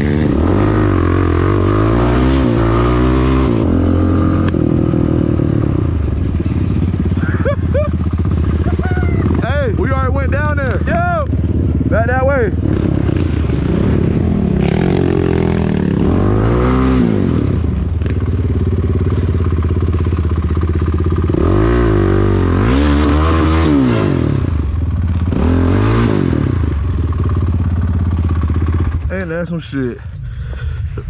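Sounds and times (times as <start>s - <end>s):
atv engine revving: 0.0s - 29.5s.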